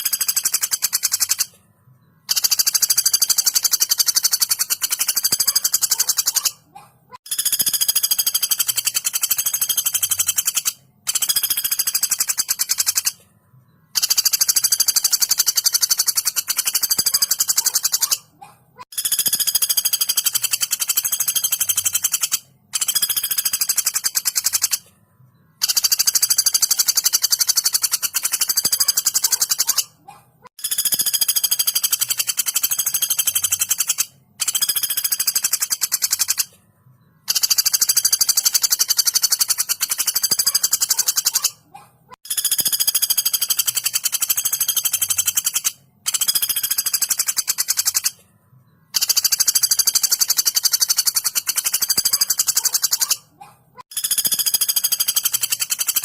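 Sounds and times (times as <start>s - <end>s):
woodpecker rattling calls: 0.0s - 1.6s, 2.2s - 13.2s, 13.9s - 24.9s, 25.6s - 36.6s, 37.2s - 48.2s, 48.9s - 56.0s.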